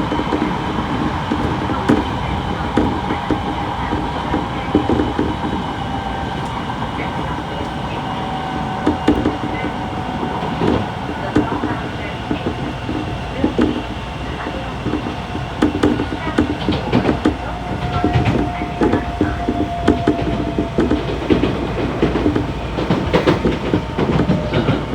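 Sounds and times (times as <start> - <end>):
train motor whine: 0.0 - 24.9
train running noise: 0.0 - 24.9.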